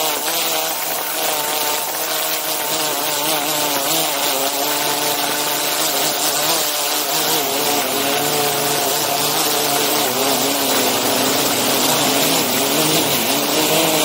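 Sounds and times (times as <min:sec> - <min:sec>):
drone motors and propellers humming: 0:00.0 - 0:14.0.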